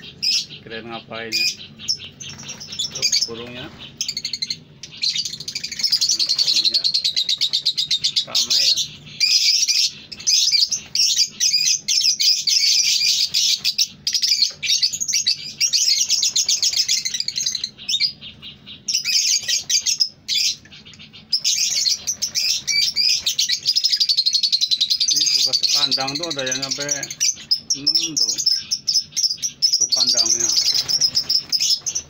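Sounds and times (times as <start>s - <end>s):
lovebirds twittering: 0.0s - 32.0s.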